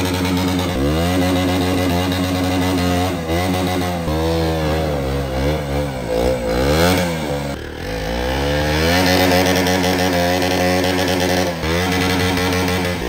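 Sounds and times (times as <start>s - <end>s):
motorcycle engine revving hard: 0.0s - 13.0s
rear wheel spinning in mud: 0.0s - 13.0s.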